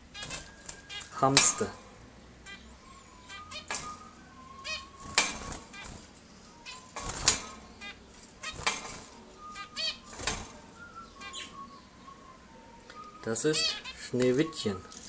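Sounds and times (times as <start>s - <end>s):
finches calling and singing: 0.0s - 15.0s.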